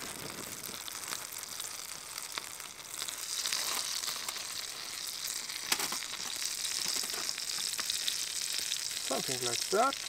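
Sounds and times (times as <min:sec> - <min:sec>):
fat sizzling in a frying pan: 0:00.0 - 0:10.0.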